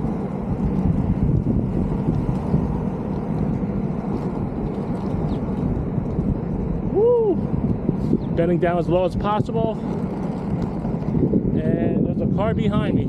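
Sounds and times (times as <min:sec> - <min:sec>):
inline skate wheels rolling on asphalt: 0:00.0 - 0:13.0
wind buffeting microphone: 0:00.0 - 0:13.0.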